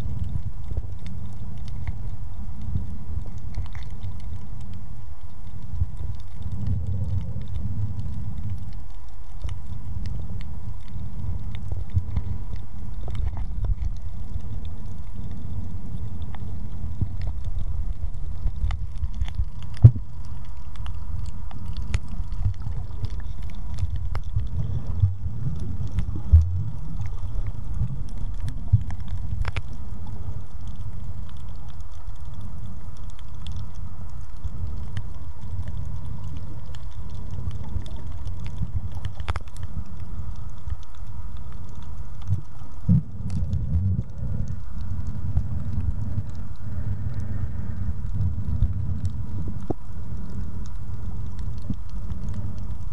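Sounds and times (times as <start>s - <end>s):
muffled underwater rumble: 0.0s - 52.9s.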